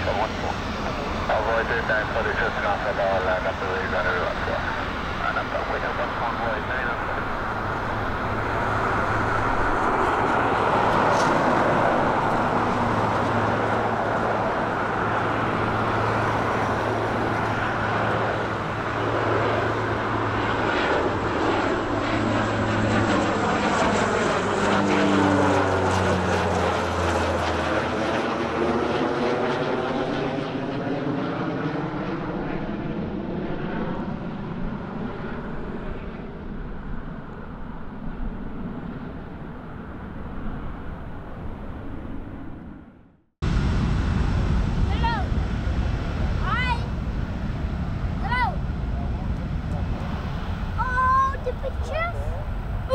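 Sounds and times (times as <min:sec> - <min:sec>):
propeller plane drone: 0:00.0 - 0:52.9.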